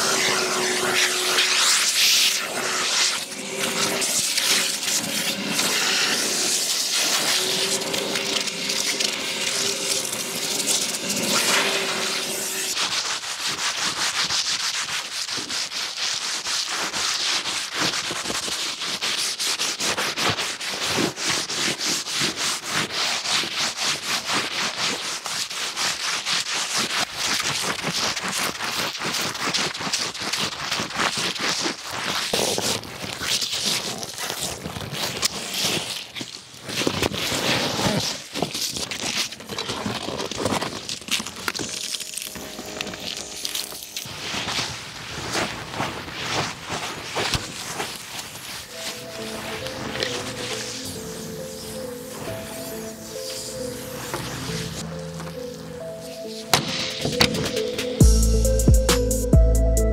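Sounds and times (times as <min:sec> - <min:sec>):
scrubbing on a car surface: 0:00.0 - 0:54.8.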